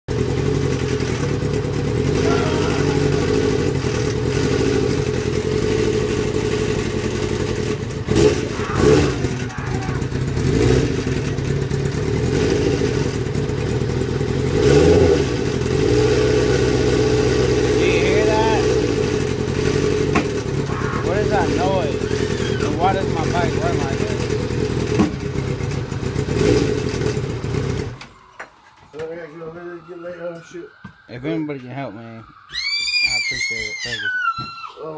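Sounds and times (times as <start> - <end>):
motorcycle throttle blips: 0.1 - 28.1
motorcycle engine idling: 0.1 - 28.3.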